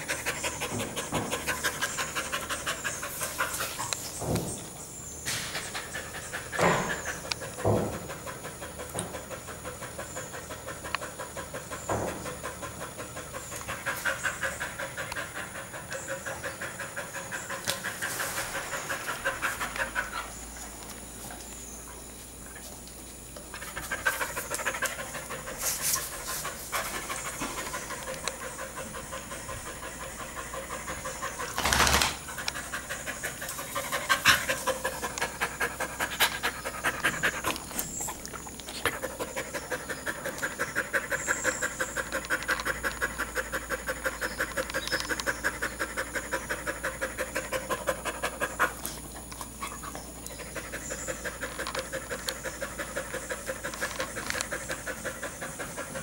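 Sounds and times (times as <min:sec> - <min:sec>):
dog panting: 0:00.0 - 0:04.2, 0:05.4 - 0:21.2, 0:23.5 - 0:56.0.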